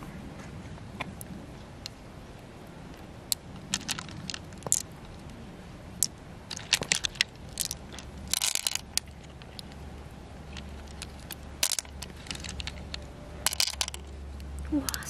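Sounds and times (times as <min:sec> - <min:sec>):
pearls clicking together: 0:02.9 - 0:15.0.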